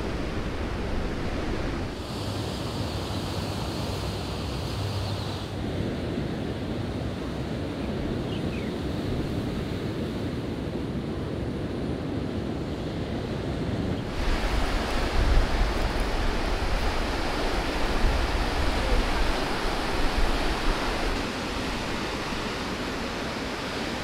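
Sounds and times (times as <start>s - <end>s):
wind rumble on microphone: 0.0s - 2.4s, 4.8s - 24.0s.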